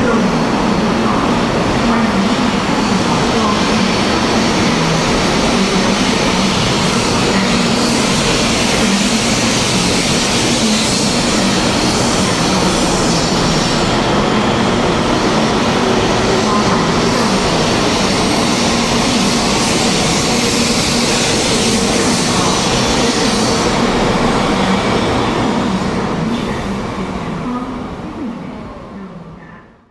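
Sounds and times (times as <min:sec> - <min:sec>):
train wheels running past: 0:00.0 - 0:28.0.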